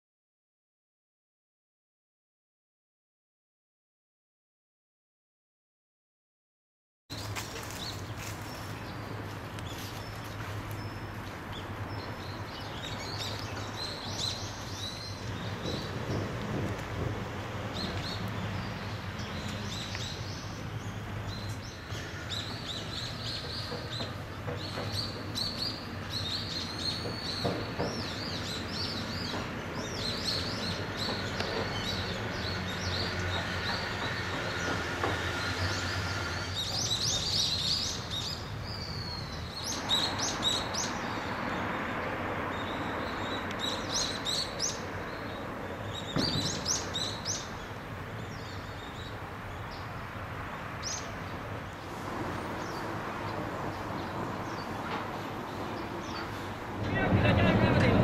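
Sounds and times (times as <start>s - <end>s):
small birds chirping: 7.2s - 16.3s, 17.7s - 58.0s.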